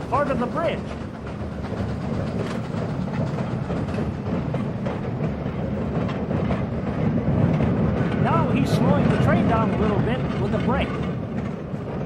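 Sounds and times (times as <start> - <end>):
steam locomotive rumbling on track: 0.0 - 12.0.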